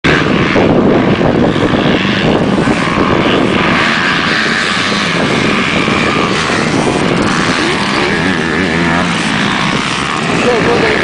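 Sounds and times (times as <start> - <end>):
dirt bike engines buzzing: 0.0 - 11.0.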